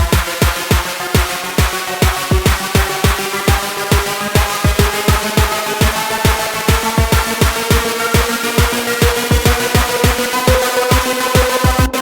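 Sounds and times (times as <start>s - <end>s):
electronic dance music: 0.0s - 12.0s
kick drum beating: 0.0s - 12.0s.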